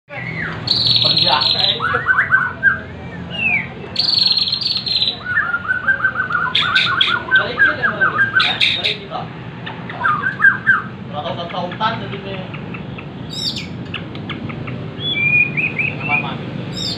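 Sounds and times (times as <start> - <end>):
bird trilling and chirping: 0.1 - 16.9.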